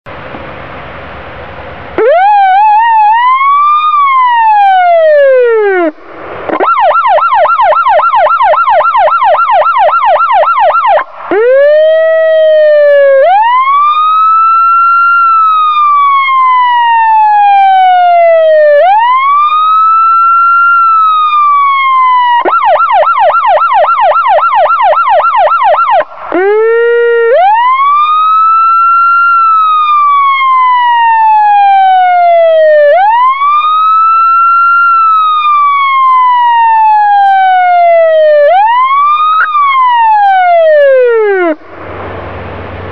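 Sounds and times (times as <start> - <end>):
electronic siren wail: 2.0 - 41.6
electronic siren yelp: 2.0 - 41.6.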